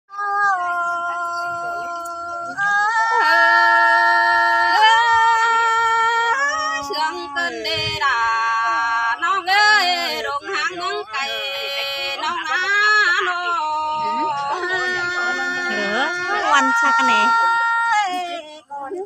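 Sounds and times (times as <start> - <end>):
woman singing unaccompanied: 0.1 - 19.0.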